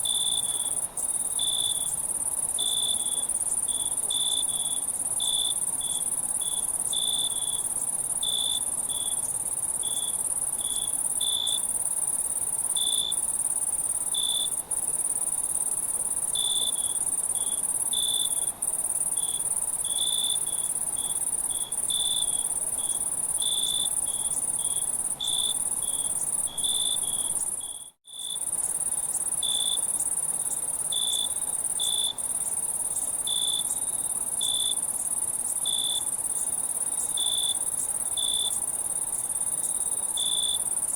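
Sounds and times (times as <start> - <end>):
crickets trilling: 0.0 - 40.9
lower cricket chirps: 0.0 - 40.9.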